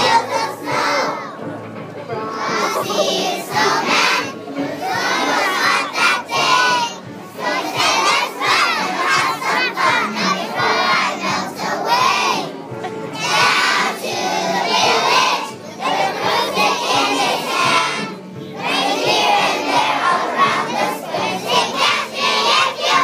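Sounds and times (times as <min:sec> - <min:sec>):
children singing loudly: 0:00.0 - 0:01.4, 0:02.3 - 0:23.0.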